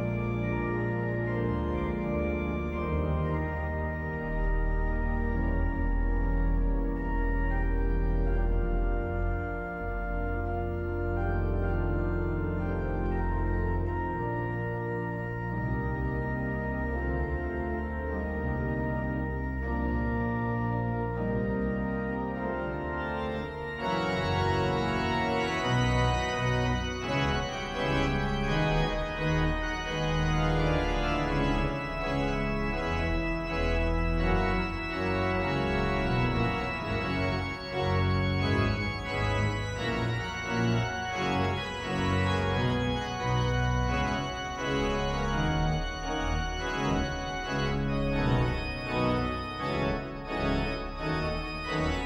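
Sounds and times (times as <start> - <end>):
church pipe organ playing: 0.0 - 52.0.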